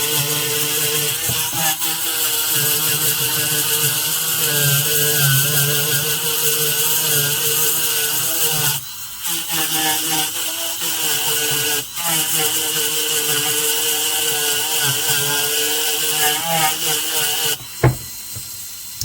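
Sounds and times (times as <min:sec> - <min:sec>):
dental handpiece whine: 0:00.0 - 0:19.0.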